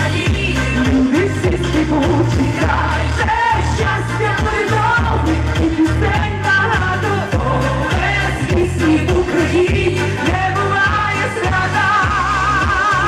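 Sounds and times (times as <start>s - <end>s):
backing music with steady beat: 0.0s - 13.0s
heavy sustained bass notes: 0.0s - 13.0s
woman singing pop song: 0.0s - 13.0s.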